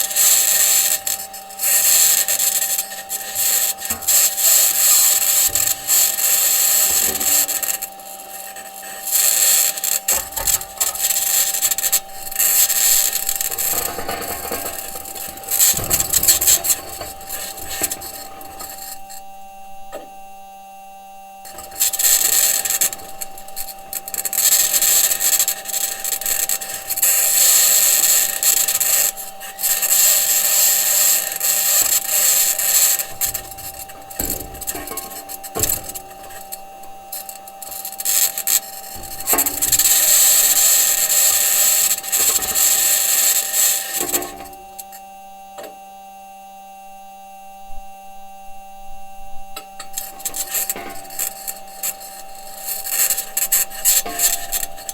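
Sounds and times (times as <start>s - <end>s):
harsh high-pitched scratching: 0.0s - 20.4s, 21.3s - 44.9s, 49.6s - 54.9s
rover wheels on surface: 0.0s - 45.1s, 48.8s - 54.9s.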